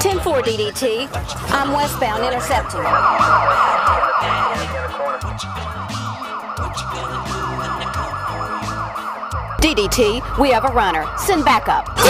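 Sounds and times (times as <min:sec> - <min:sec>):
police siren yelping: 0:01.6 - 0:12.0.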